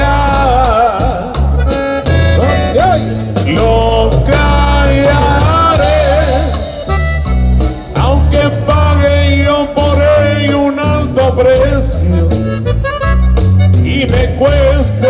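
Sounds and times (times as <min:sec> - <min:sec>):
accordion melody: 0:00.0 - 0:15.0
band playing: 0:00.0 - 0:15.0.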